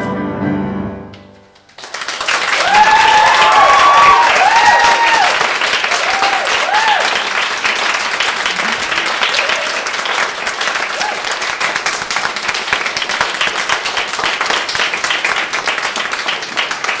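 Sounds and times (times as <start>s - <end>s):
audience applauding: 1.6s - 17.0s.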